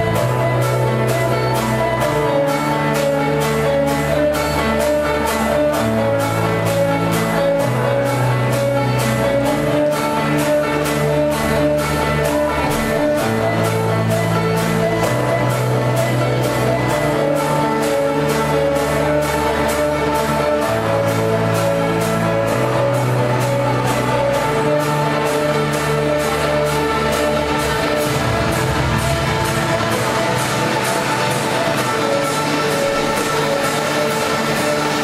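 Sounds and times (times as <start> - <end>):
bass line: 0.0 - 35.0
music with steady beat: 0.0 - 35.0.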